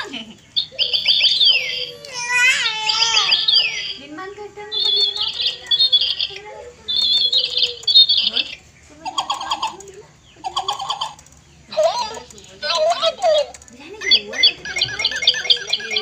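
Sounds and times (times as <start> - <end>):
electronic toy bird chirping: 0.0 - 16.0.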